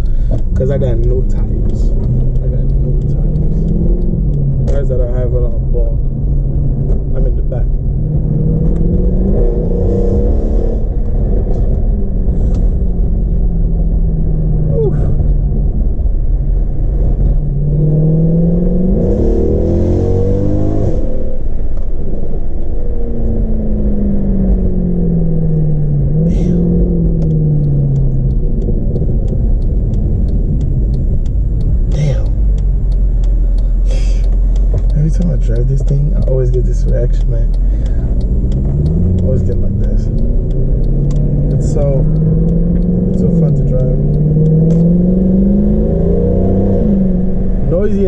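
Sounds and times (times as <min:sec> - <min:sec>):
car exhaust rumble revving: 0:00.0 - 0:48.0.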